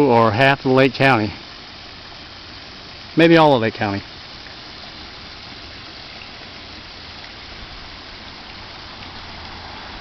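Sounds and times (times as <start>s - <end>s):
waterfall pouring into pond: 0.0s - 10.0s.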